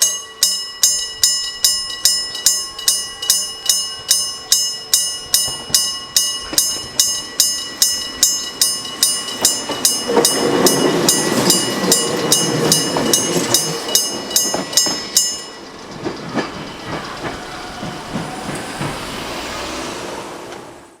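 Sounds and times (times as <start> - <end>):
level crossing bell ringing: 0.0 - 18.0
train wheels clacking: 0.0 - 21.0.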